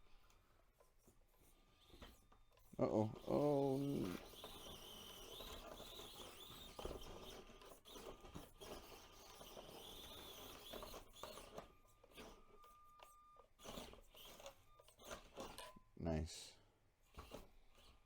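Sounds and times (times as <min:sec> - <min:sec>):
small electric motor whine: 0:01.4 - 0:15.8, 0:17.1 - 0:18.0.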